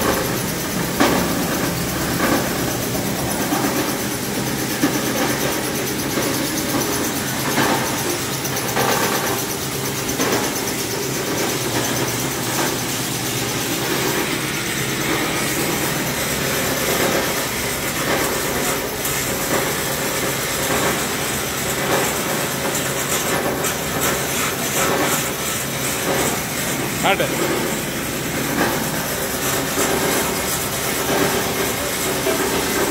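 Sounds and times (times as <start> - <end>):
wire granulator machine running: 0.0 - 32.9.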